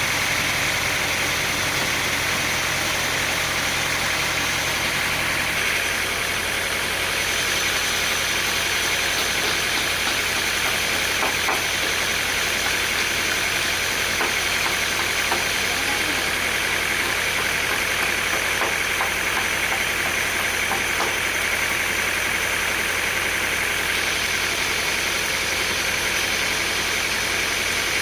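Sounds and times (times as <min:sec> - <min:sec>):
sawmill machinery drone: 0:00.0 - 0:28.0.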